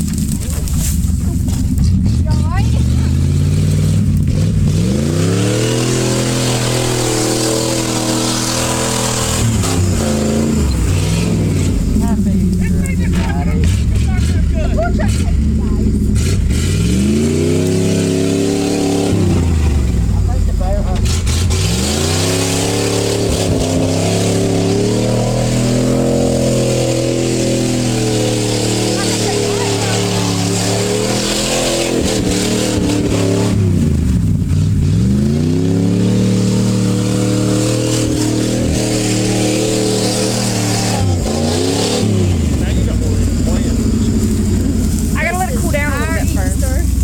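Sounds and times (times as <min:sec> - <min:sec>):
vehicle engine revving hard: 0:01.4 - 0:47.0.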